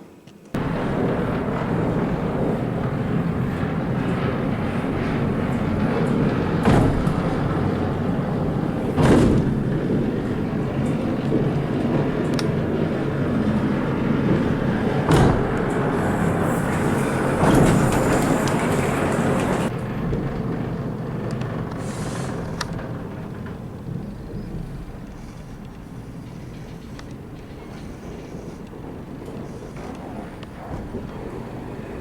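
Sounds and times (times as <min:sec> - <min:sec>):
train rumble: 0:00.4 - 0:32.0.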